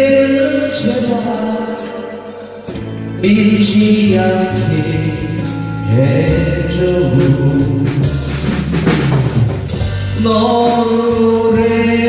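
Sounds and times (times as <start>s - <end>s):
person singing: 0.0s - 8.8s, 9.8s - 12.0s
drum kit fill: 0.0s - 12.0s
held keyboard chords: 0.0s - 12.0s.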